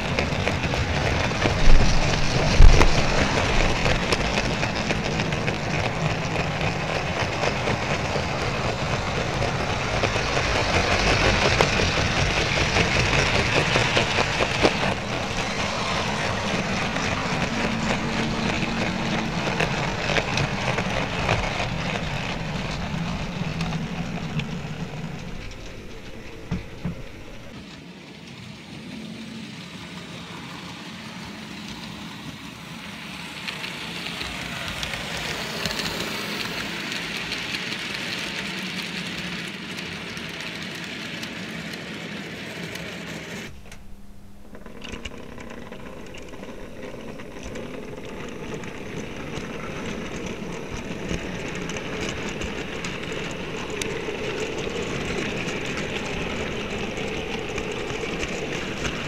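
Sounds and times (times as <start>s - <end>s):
goods wagons passing: 0.0s - 59.0s
model train wheels rattling: 0.0s - 59.0s.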